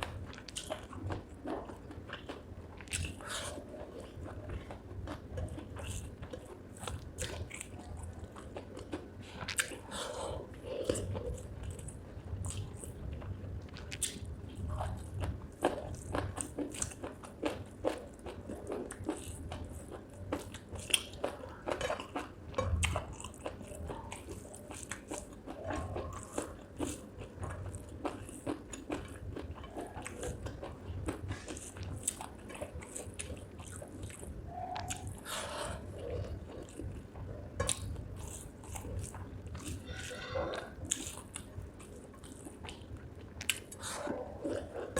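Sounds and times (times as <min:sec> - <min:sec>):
close-up chewing mouth clicks: 0:00.0 - 0:44.9.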